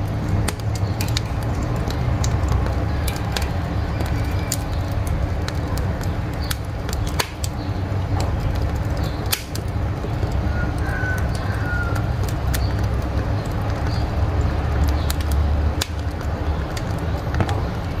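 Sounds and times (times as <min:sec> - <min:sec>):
fire crackling and popping: 0:00.0 - 0:18.0
low rush of flame: 0:00.0 - 0:18.0.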